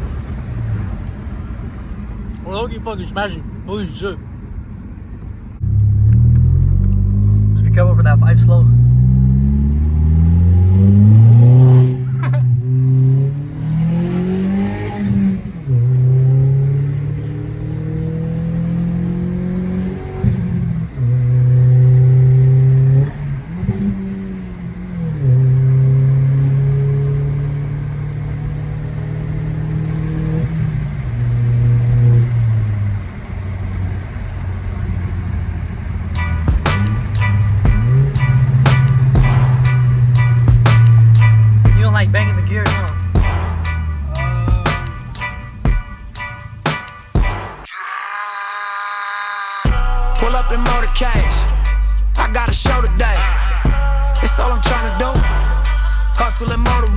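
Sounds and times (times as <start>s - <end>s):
car exhaust accelerating hard: 5.6s - 46.6s, 49.7s - 56.9s.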